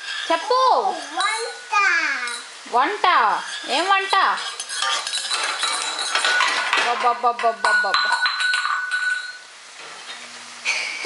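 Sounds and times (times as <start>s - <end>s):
metal utensils clinking on saucepan: 0.0s - 1.6s, 2.2s - 10.9s.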